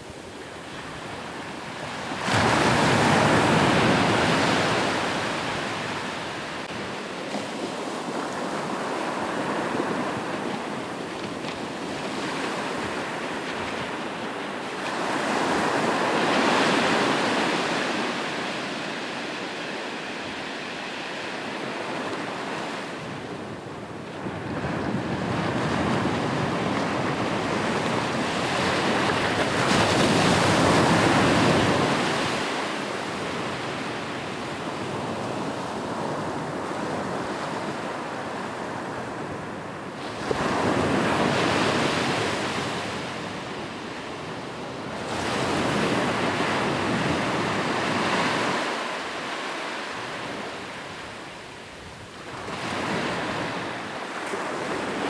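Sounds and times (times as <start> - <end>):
ocean waves breaking on shore: 0.0 - 23.2, 23.8 - 55.0
wind: 0.0 - 55.0.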